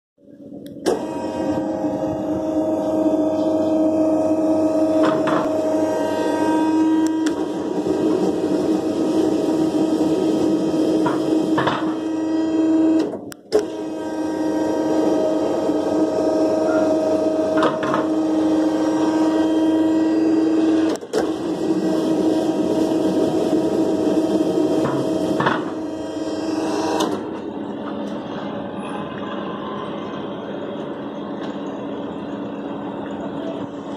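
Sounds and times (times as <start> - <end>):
electric motor and pump humming: 0.4 - 28.6.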